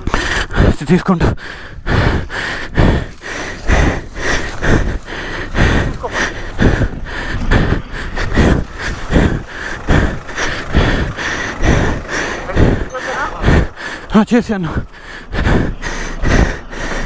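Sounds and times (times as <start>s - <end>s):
heavy rhythmic panting: 0.0s - 17.0s.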